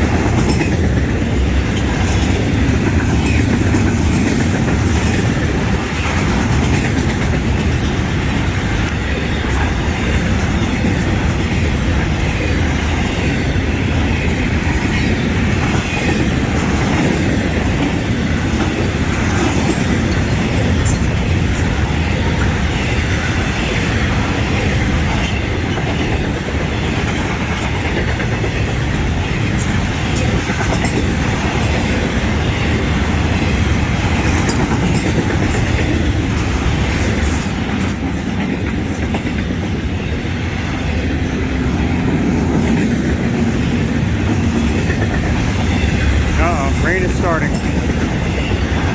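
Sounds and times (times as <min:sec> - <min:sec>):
freight train rumbling past: 0:00.0 - 0:48.9
train wheels clicking on track: 0:00.0 - 0:48.9.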